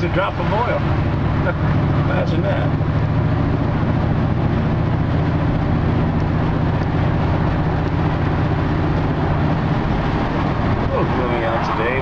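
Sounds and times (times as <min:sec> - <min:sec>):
truck engine running: 0:00.0 - 0:12.0
tyre and road noise: 0:00.0 - 0:12.0.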